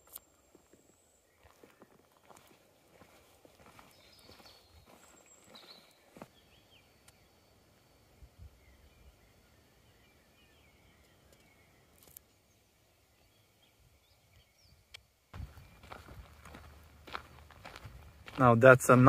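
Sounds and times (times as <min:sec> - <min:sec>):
faint bird chirps: 0:00.0 - 0:16.8.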